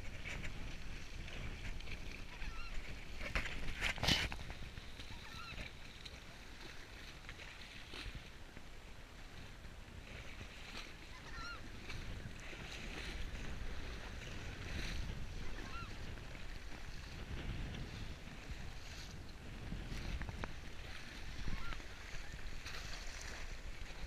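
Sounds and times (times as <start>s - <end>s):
horse splashing through water: 0.0s - 24.0s
wind rumble on microphone: 0.0s - 24.0s.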